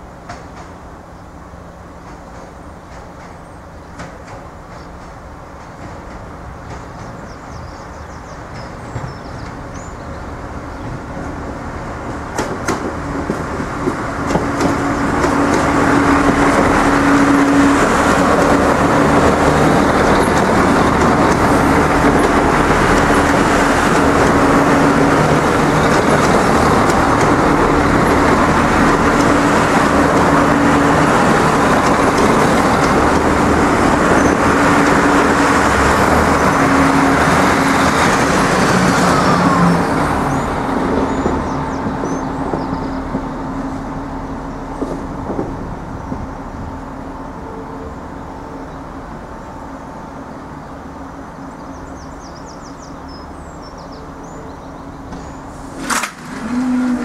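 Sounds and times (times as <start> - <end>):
train wheels rumbling on rails: 0.0 - 57.0
diesel engines humming: 10.0 - 57.0.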